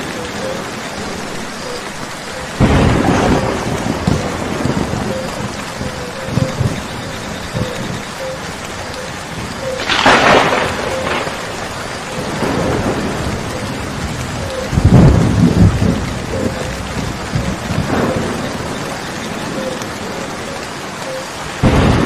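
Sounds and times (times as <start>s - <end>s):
heavy rain: 0.0s - 22.0s
thunder rumbling: 0.0s - 22.0s
thunder crack: 2.6s - 20.5s, 21.6s - 22.0s.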